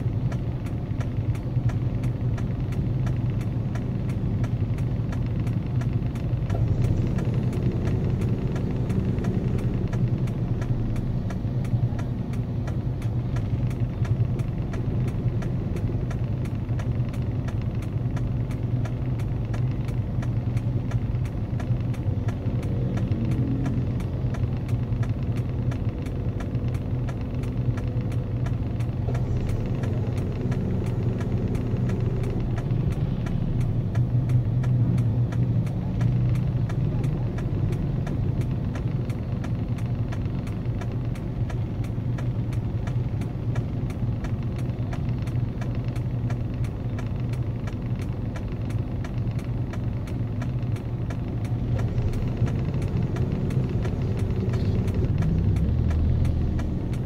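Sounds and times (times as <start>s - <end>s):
motorcycle engines idling: 0.0s - 57.0s.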